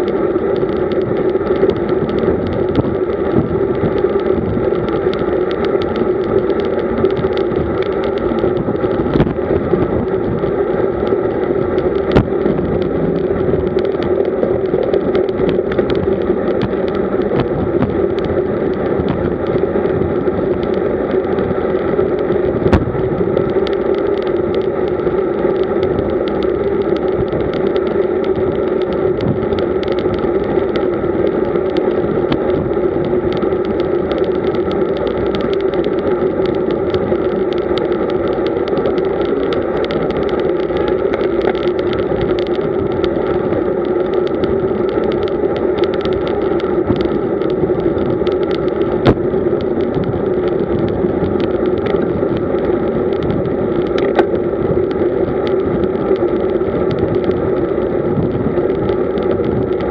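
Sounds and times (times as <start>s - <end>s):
wind and road rush: 0.0s - 59.9s.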